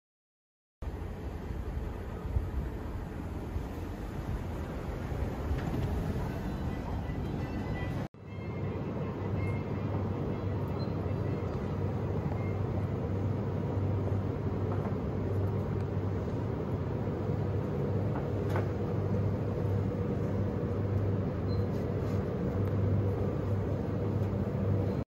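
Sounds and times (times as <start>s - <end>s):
refrigerated display case humming: 0.9s - 25.0s.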